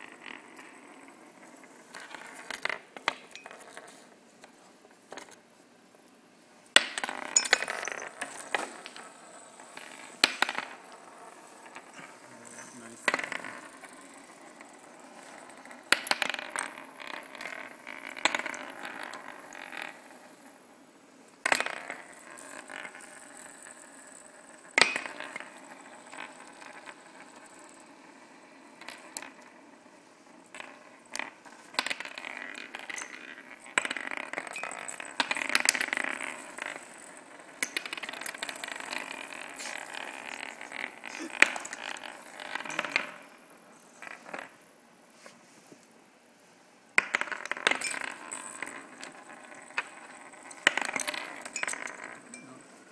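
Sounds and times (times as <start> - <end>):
spinning tops rattling on board: 0.0 - 4.0, 6.7 - 20.6, 21.4 - 44.6, 47.0 - 52.9.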